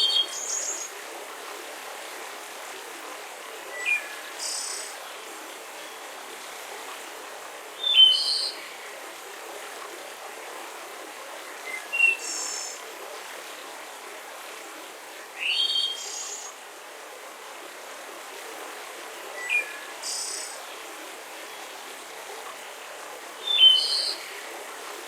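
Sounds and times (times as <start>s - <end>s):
forest ambience hiss: 0.0s - 9.4s, 10.2s - 25.0s.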